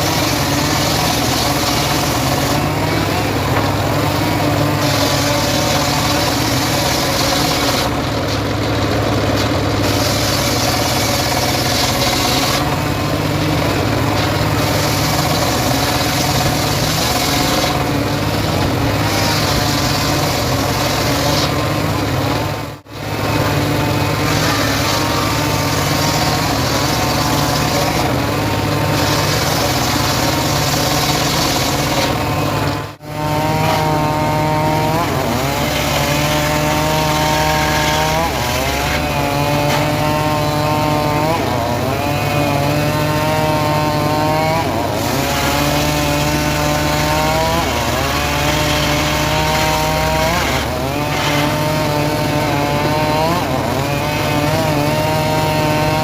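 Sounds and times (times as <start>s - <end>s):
saw cutting wood: 0.0s - 56.0s
saw engine running: 0.0s - 56.0s.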